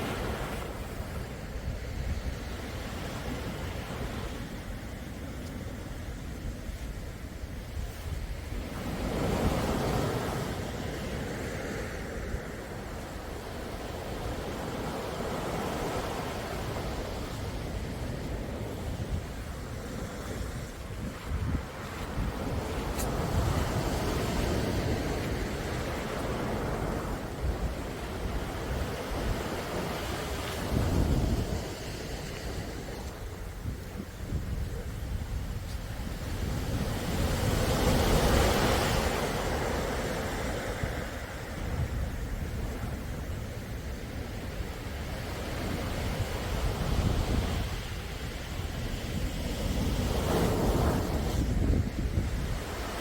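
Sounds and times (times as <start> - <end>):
sea waves washing in: 0.0 - 53.0
wind on microphone: 0.0 - 53.0.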